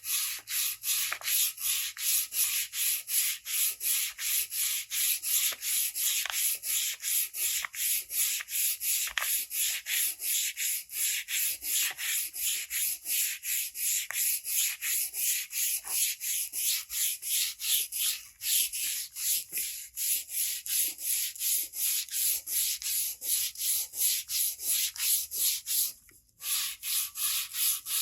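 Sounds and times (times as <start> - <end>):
hand sanding metal: 0.0 - 28.0.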